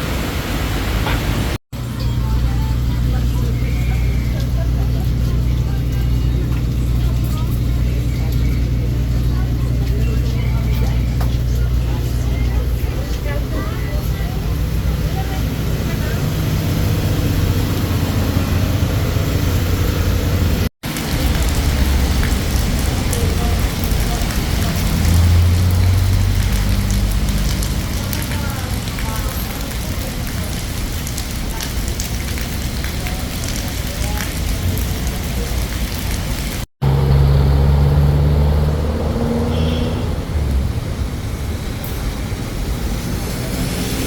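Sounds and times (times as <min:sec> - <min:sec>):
low rumble of road traffic: 0:00.0 - 0:44.0
rain falling: 0:00.0 - 0:44.0
vehicle engine droning: 0:00.0 - 0:44.0.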